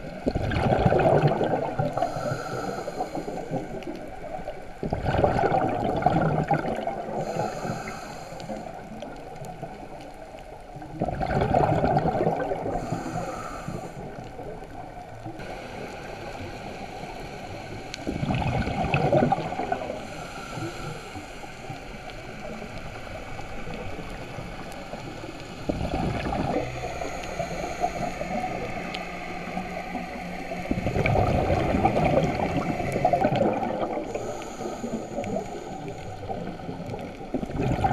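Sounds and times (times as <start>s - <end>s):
underwater regulator bubbles: 0.0s - 10.2s, 10.8s - 37.9s
soft water hiss: 0.0s - 37.9s.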